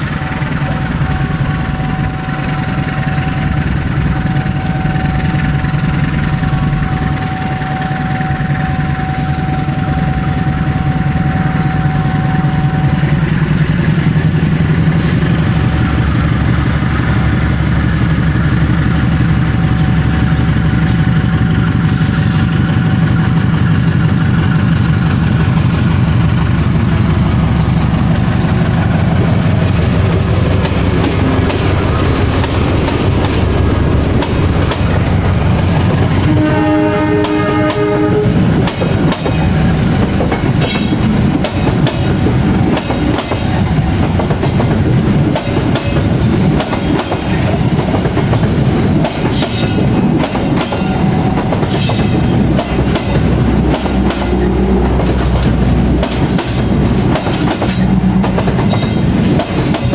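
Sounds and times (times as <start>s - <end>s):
locomotive diesel engine: 0.0s - 59.9s.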